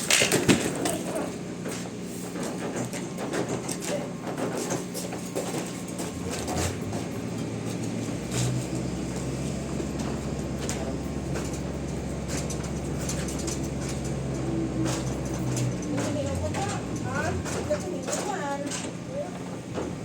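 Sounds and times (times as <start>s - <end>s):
garage door motor humming: 0.0s - 20.0s
knocks and clatter: 2.4s - 8.9s, 9.8s - 20.0s.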